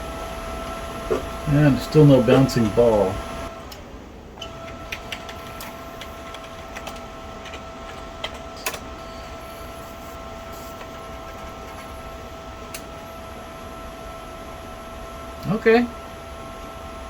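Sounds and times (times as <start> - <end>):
computer fans humming: 0.0 - 17.0
whining tones: 0.0 - 17.0.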